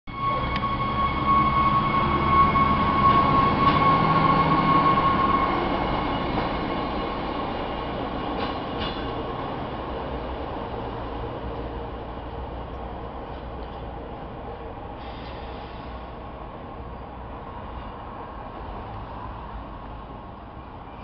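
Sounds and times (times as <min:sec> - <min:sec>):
train engine and wheels rumbling: 0:00.1 - 0:21.0.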